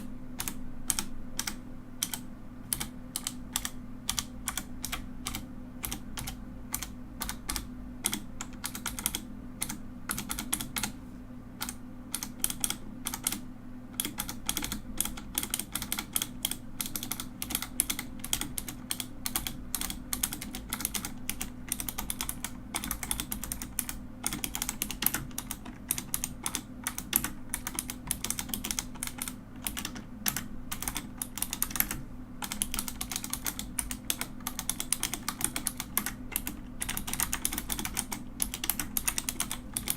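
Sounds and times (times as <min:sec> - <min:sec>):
typing on mechanical keyboard: 0:00.0 - 0:11.0, 0:11.6 - 0:39.9.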